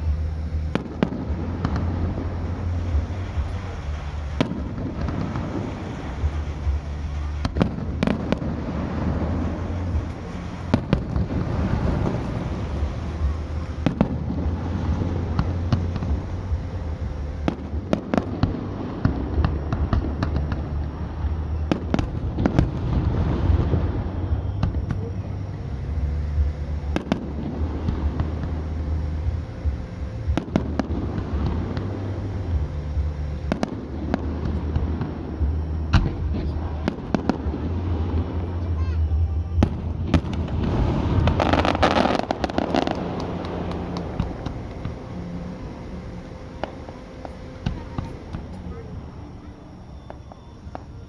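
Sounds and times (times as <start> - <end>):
fireworks bangs: 0.0 - 51.0
fireworks crackling: 0.0 - 51.0
low rumble: 0.0 - 51.0.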